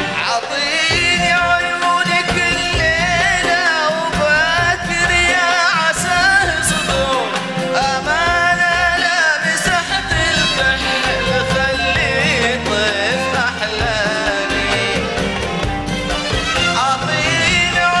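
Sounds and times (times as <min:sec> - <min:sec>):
man singing: 0:00.0 - 0:18.0
orchestra playing: 0:00.0 - 0:18.0.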